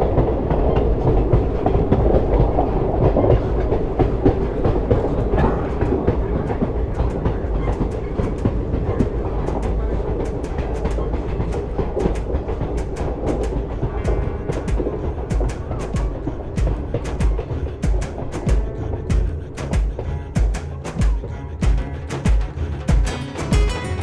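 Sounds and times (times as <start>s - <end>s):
train rumbling on track: 0.0s - 24.0s
wheels clicking over rail joints: 0.0s - 24.0s.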